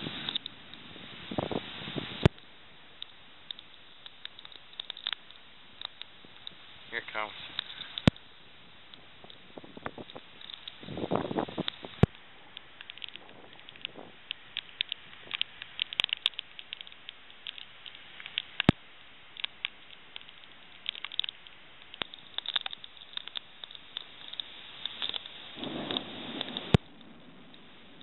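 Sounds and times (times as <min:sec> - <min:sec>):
raindrops pattering: 0:00.0 - 0:28.0.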